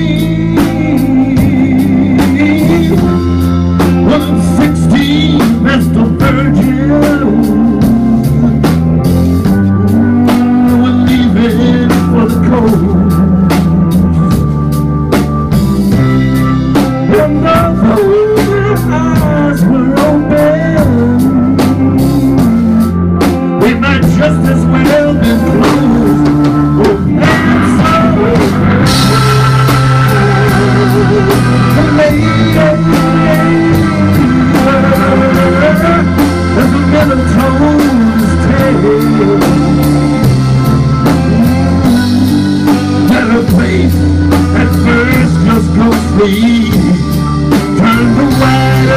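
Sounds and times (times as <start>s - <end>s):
drum kit: 0.0s - 48.9s
electric bass: 0.0s - 48.9s
electric guitar lead line: 0.0s - 48.9s.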